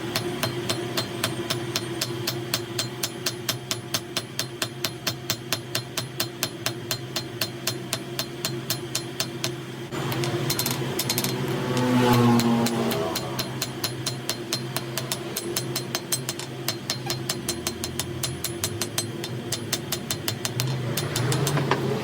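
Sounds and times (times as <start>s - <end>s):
hammer blows on metal: 0.0s - 22.0s
steady hum: 0.0s - 22.0s.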